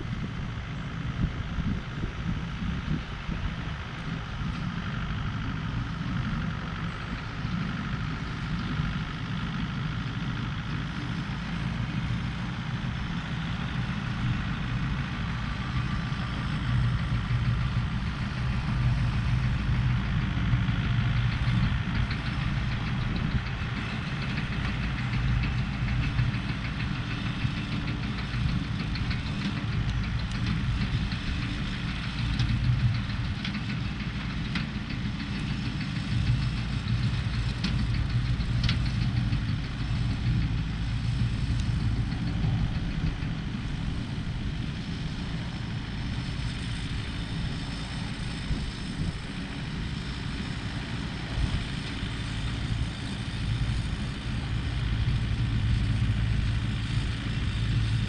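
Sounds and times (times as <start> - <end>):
low engine drone: 0.0 - 58.0.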